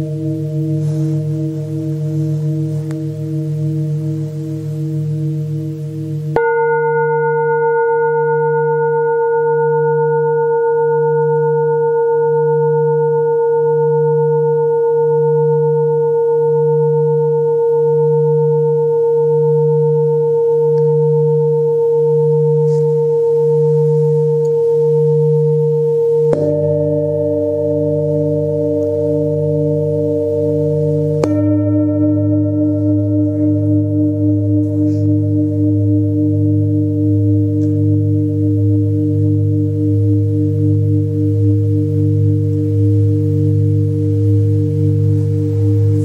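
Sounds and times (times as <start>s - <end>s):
metal singing bowls ringing: 0.0s - 46.0s.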